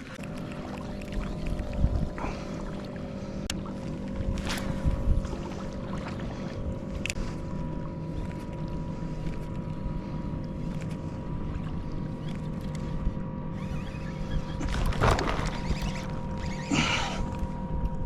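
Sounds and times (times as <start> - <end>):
boat motor running: 0.0 - 18.0
water noise: 0.0 - 18.0
wind: 0.0 - 18.0.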